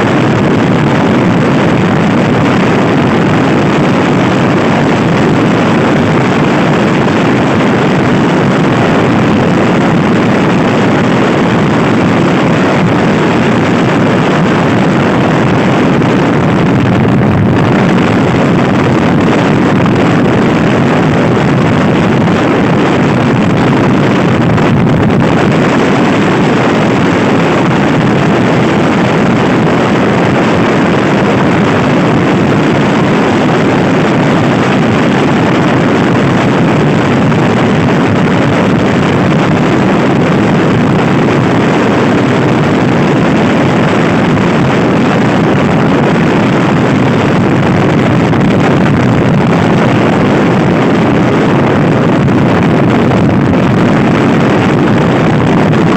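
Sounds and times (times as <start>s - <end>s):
wind noise on microphone: 0.0s - 55.9s.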